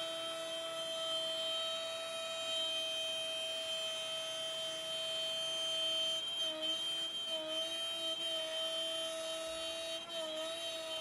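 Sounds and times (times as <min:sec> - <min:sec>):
router spindle whining cutting wood: 0:00.0 - 0:11.0.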